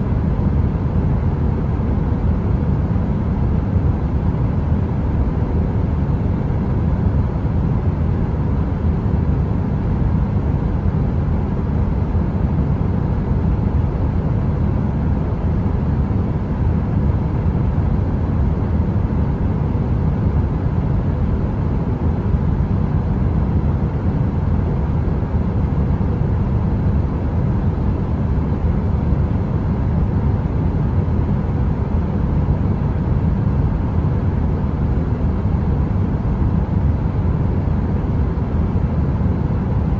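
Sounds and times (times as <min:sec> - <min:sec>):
heater fan running: 0:00.0 - 0:39.9.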